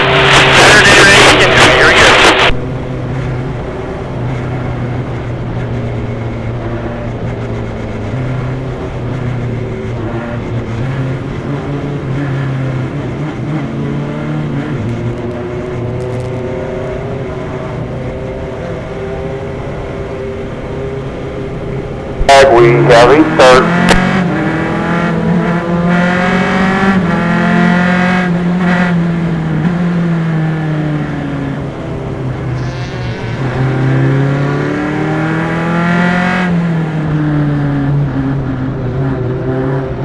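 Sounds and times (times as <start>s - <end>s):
race car engine running: 0.0s - 40.0s.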